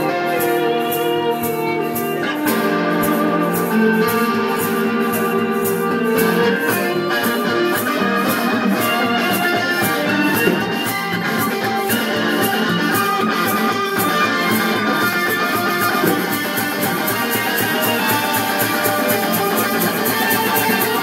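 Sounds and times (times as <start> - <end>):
percussion beat: 0.0 - 21.0
street band playing: 0.0 - 21.0.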